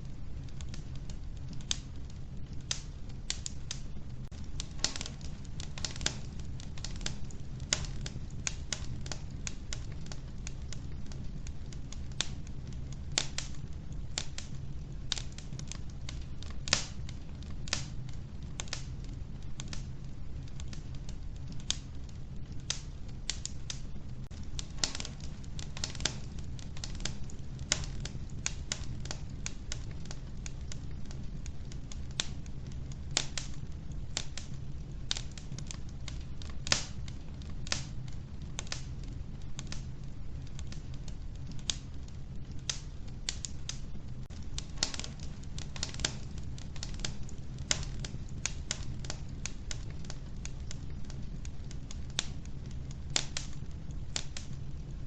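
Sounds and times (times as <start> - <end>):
stove low rumble: 0.0 - 55.0
wood fire crackling: 0.0 - 55.0.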